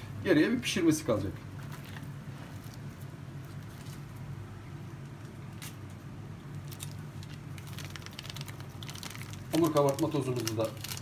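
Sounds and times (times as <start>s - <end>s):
steady low hum: 0.0s - 11.0s
hand kneading sticky dough: 1.2s - 11.0s.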